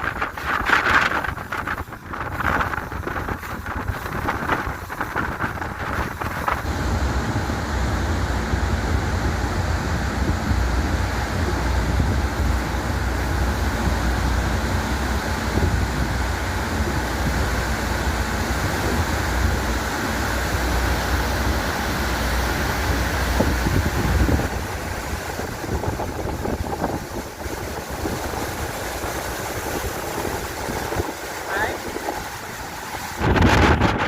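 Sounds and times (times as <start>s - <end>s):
boat engine: 0.0s - 34.0s
heavy low rumble: 0.0s - 34.0s
water along boat hull: 0.0s - 34.0s
wind rushing over microphone: 0.0s - 34.0s.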